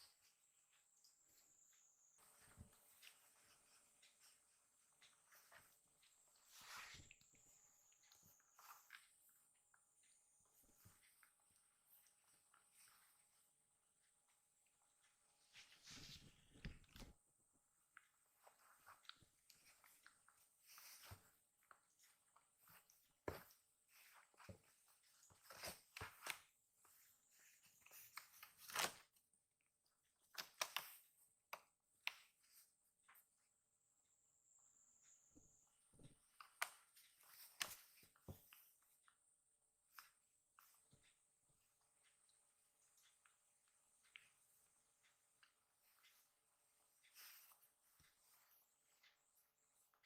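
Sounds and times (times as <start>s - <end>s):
kittens rustling and scratching: 0.0s - 33.6s, 34.4s - 50.0s.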